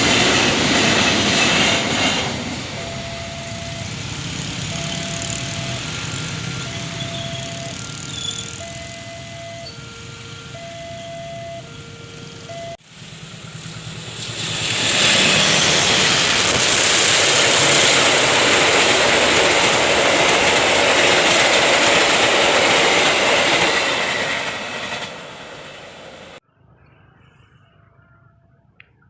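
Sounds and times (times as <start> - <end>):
train passing at speed: 0.0 - 26.4
crossing alarm tones: 0.1 - 14.2, 14.8 - 26.4.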